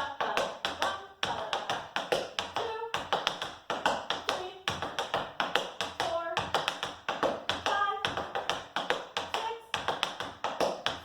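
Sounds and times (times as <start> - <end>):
tap shoes striking hard floor: 0.3 - 11.0.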